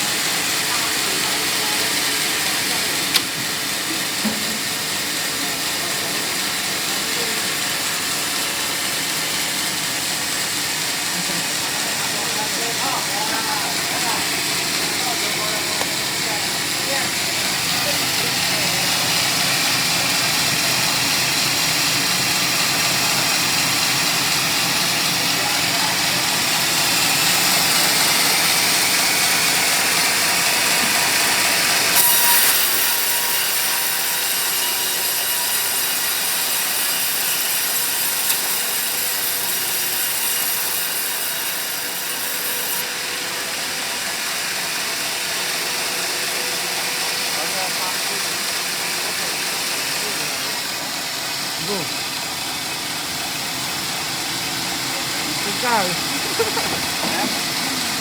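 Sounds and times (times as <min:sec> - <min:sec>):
motor running: 0:00.0 - 0:58.0
sawmill blade cutting log: 0:00.0 - 0:58.0.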